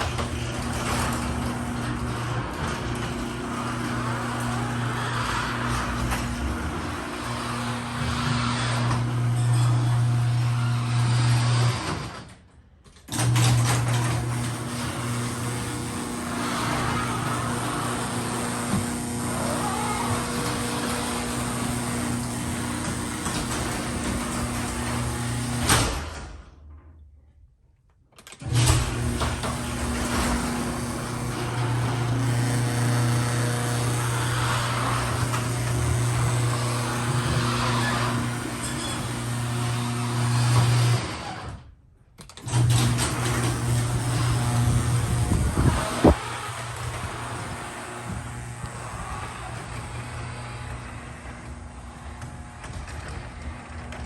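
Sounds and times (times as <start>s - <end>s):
garage door opener motor hum: 0.0s - 27.1s, 28.2s - 54.0s
garage door moving: 0.0s - 27.2s, 28.0s - 54.0s.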